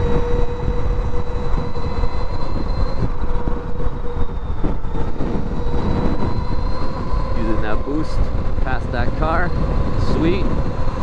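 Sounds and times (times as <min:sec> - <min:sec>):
electric motor whine: 0:00.0 - 0:11.0
wind rumble on microphone: 0:00.0 - 0:11.0.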